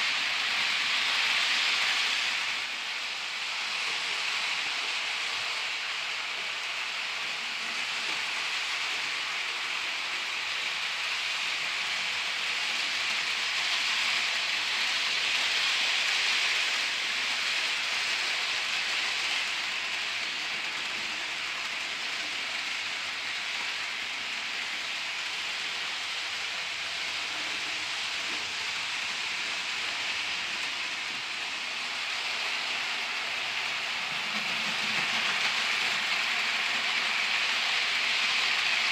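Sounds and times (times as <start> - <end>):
model train running on track: 0.0 - 38.9.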